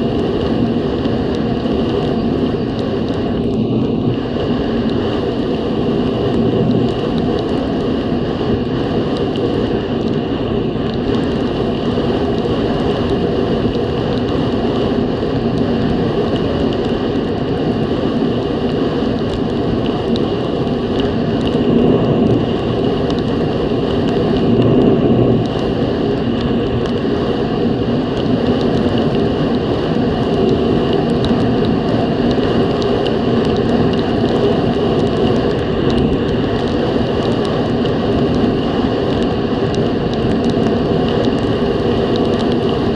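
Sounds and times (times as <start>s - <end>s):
snowmobile engine drone: 0.0s - 42.9s
wind noise: 0.0s - 42.9s.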